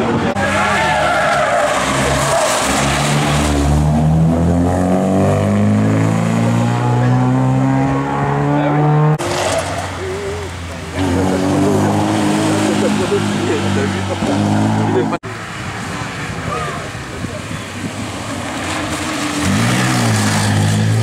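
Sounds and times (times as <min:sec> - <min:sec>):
rally car engine accelerating: 0:00.0 - 0:15.2, 0:17.9 - 0:21.0.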